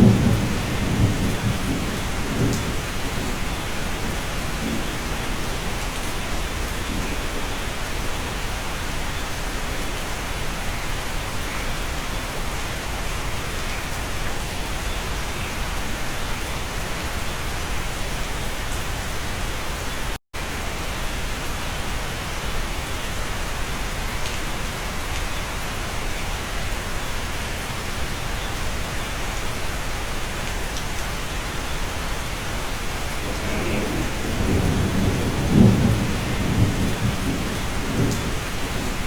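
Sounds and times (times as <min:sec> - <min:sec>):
dense rain hiss: 0:00.0 - 0:39.0.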